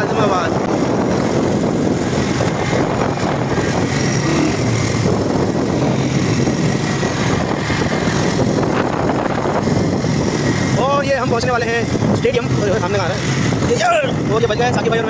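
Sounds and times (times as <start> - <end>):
motorcycle engine running: 0.0 - 15.0
noisy rush: 0.0 - 15.0.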